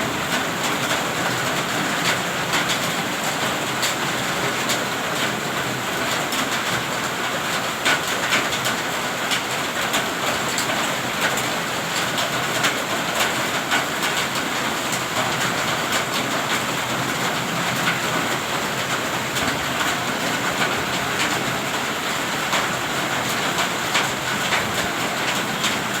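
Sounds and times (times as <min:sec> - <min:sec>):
heavy rain falling: 0:00.0 - 0:26.0
raindrops tapping a hard surface: 0:00.0 - 0:26.0.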